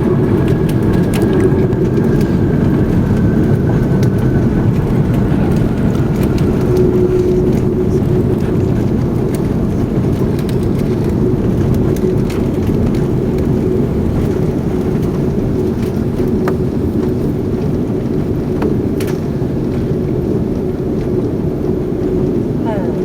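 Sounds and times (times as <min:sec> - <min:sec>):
airplane cabin rumble: 0:00.0 - 0:23.0
jet engine hum: 0:00.0 - 0:23.0.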